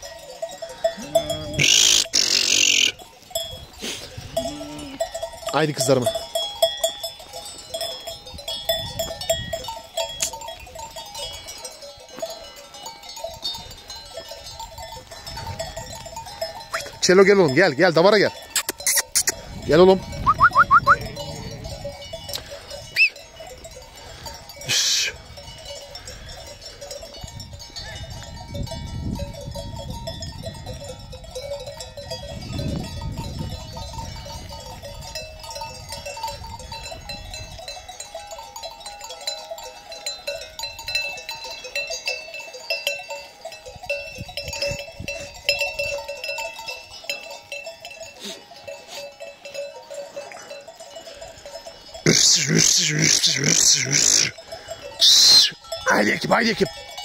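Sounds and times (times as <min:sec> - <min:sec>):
sheep bells clinking: 0:00.0 - 0:57.0.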